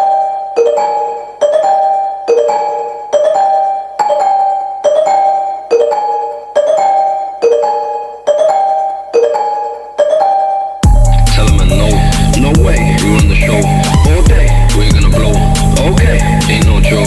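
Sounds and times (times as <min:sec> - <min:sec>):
chiming mallet keyboard riff: 0:00.0 - 0:17.0.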